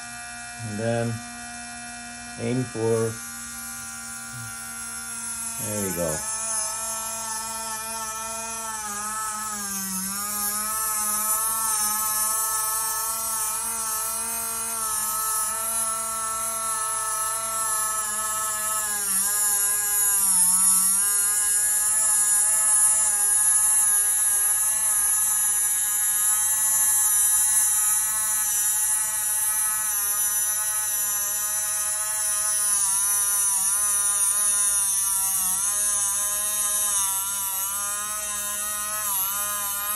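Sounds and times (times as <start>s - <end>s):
rotary engraving tool whining: 0.0s - 39.9s.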